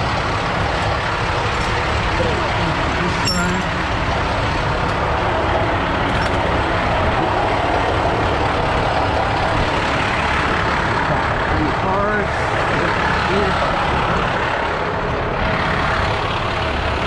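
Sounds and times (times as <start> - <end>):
heavy truck rushing noise: 0.0 - 17.0.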